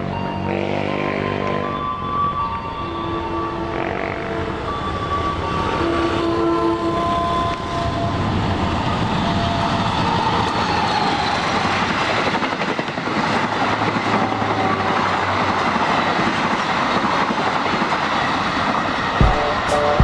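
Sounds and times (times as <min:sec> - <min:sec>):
diesel locomotive passing: 0:00.0 - 0:20.0
train wheels rumbling on rails: 0:03.2 - 0:20.0.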